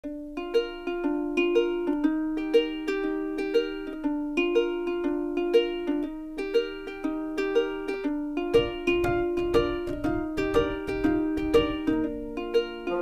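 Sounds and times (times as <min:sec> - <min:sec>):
plucked melody with steady beat: 0:00.0 - 0:13.0.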